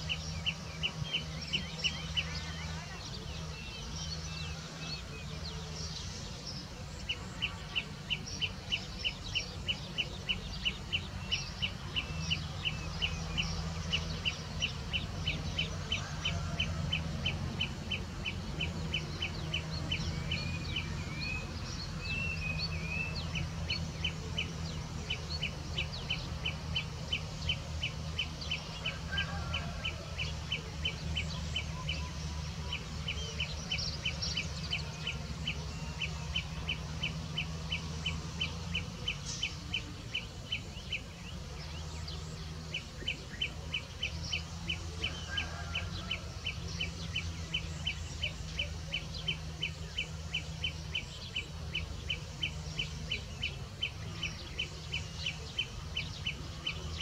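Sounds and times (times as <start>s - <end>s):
other birds chirping: 0.0s - 57.0s.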